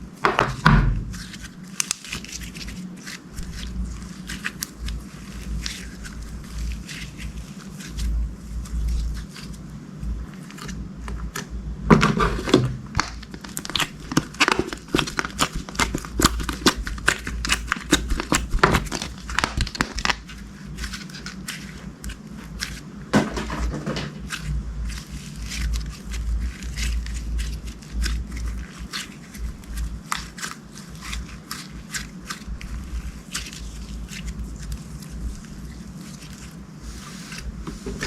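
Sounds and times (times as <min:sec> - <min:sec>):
crunchy slime crackling: 0:00.0 - 0:38.0.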